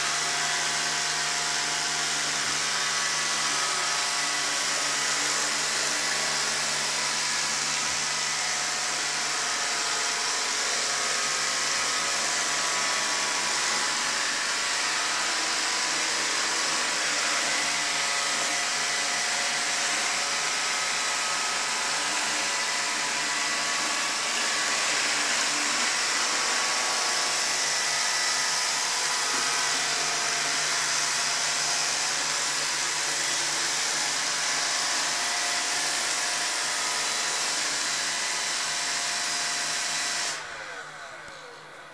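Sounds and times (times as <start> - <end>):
robot vacuum cleaner whirring: 0.0 - 41.9.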